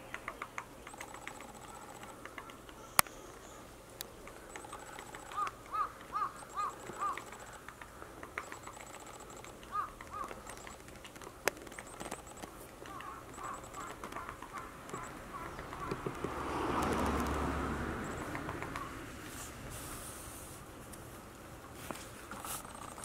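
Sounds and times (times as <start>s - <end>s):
woodpecker tapping on tree: 0.0s - 19.0s, 22.3s - 23.0s
bird calling: 0.0s - 20.6s.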